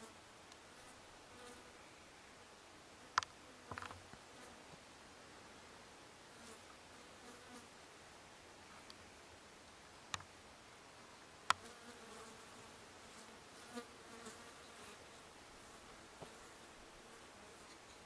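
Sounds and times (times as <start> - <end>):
faint buzzing of flying insects: 0.0 - 18.0.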